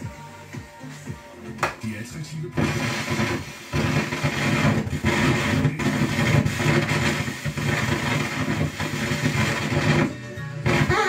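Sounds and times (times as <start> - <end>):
radio tuning between stations: 0.0 - 11.0.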